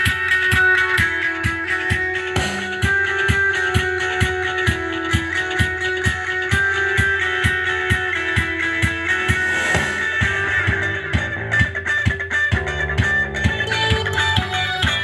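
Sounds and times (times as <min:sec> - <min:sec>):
guitar: 0:00.0 - 0:15.0
steady drum beat: 0:00.0 - 0:15.0.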